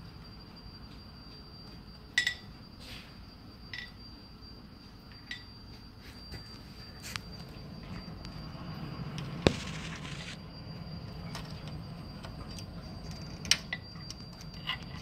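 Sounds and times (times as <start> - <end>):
faint steady high whine: 0.0 - 15.0.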